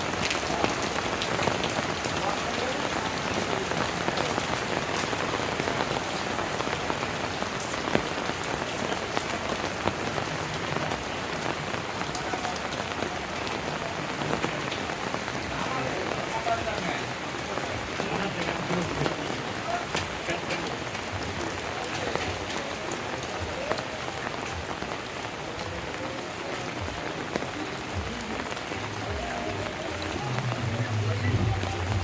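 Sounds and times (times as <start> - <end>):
rain hissing: 0.0 - 32.0
raindrops ticking on hard surfaces: 0.0 - 32.0.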